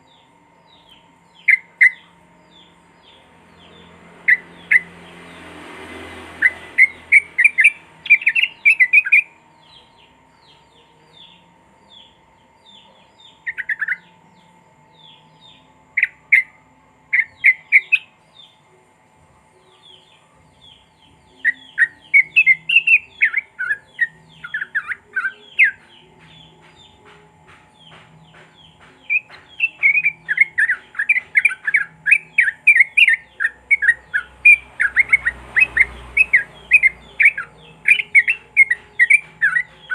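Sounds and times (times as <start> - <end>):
bird singing descending notes: 0.0 - 39.9
faint steady hum: 0.0 - 39.9.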